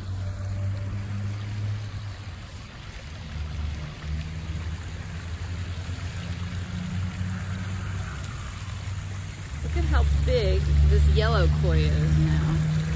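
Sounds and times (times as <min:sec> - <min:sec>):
pond waterfall splashing: 0:00.0 - 0:12.9.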